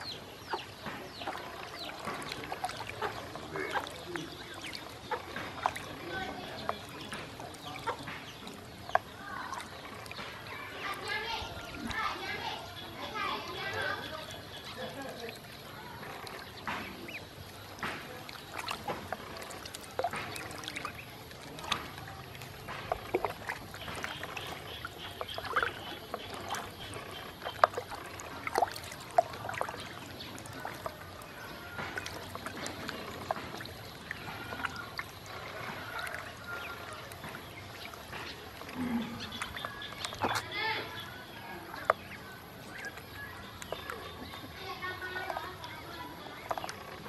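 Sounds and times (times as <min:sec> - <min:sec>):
ducklings splashing in water: 0:00.0 - 0:47.0.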